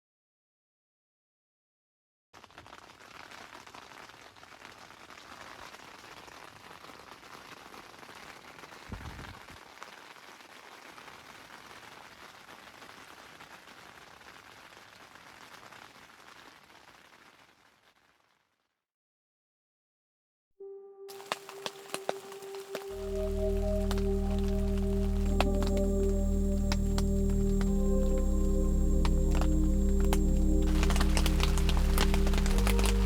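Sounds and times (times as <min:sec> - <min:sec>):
steady rain pattering: 0:02.6 - 0:17.9, 0:21.1 - 0:33.0.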